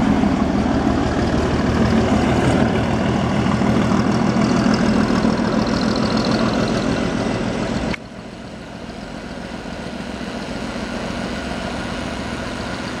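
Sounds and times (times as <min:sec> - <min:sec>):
diesel railcar engine running: 0:00.0 - 0:13.0.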